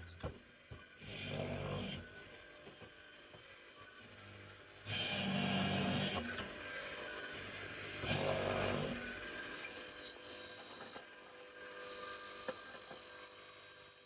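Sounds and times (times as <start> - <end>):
power tool motor running: 1.0 - 2.5, 4.1 - 14.0.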